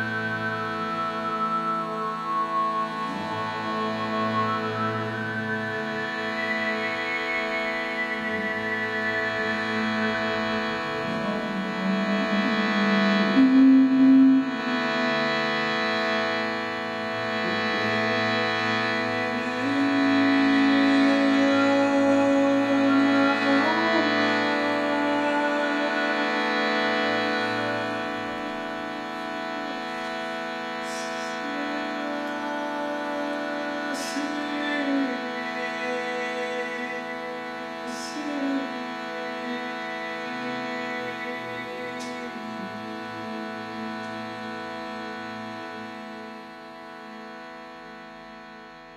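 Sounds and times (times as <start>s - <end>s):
harmonium playing a drone chord: 0.0s - 48.9s.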